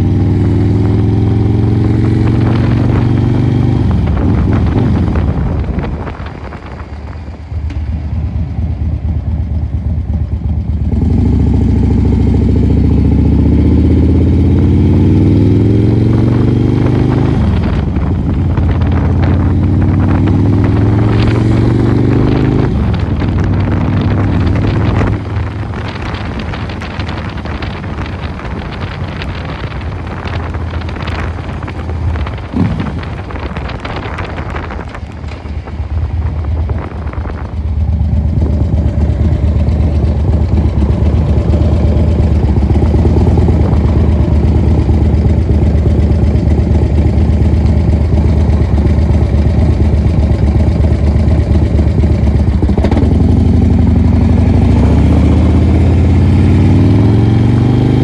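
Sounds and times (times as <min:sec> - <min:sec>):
motorcycle accelerating through gears: 0:00.0 - 0:58.0.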